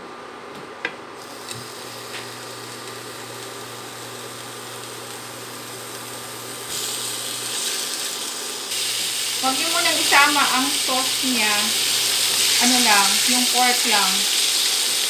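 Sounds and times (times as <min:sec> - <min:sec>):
pork sizzling in hot oil: 0:01.2 - 0:15.0.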